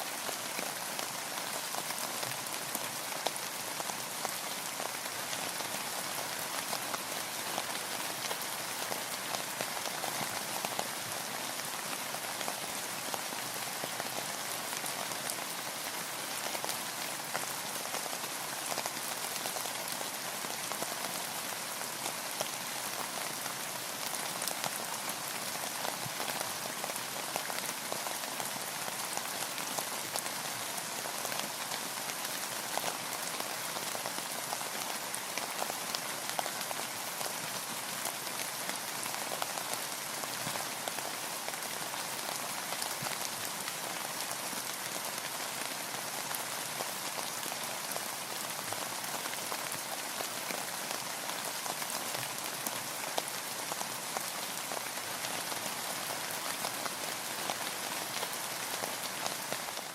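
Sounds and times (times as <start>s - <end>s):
rain falling on a boat: 0.0s - 59.9s.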